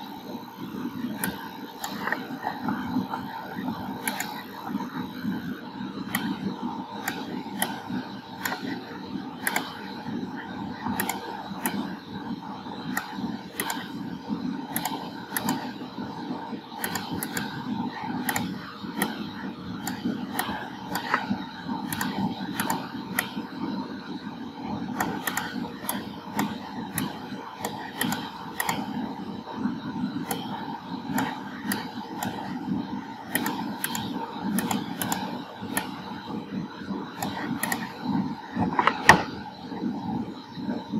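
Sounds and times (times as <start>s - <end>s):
computer mouse clicking: 0.1s - 40.9s.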